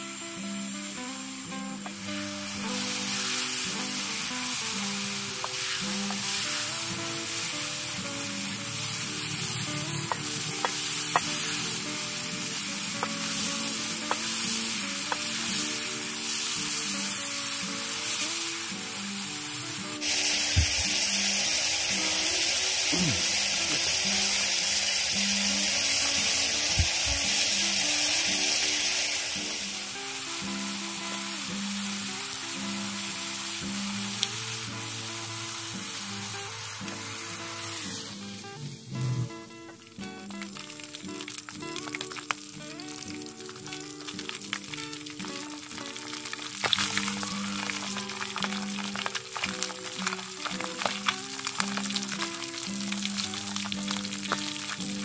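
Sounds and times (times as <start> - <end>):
background music: 0.0 - 55.0
greens sizzling in pan: 0.0 - 55.0.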